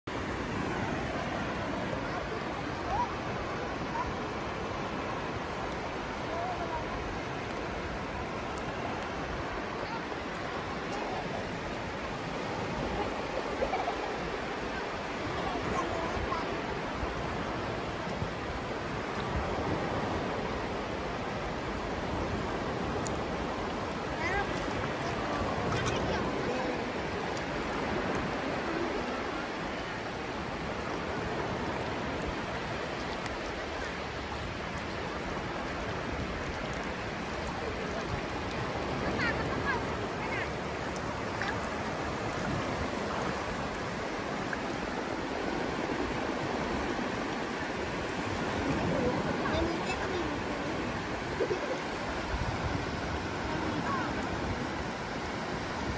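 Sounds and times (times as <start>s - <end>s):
surf washing over sandy beach: 0.1s - 55.9s.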